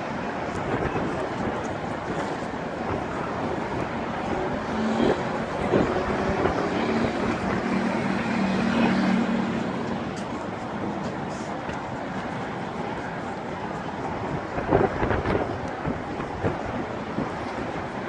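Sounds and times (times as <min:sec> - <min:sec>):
harbour noise: 0:00.0 - 0:18.0
outdoor traffic: 0:00.0 - 0:18.0.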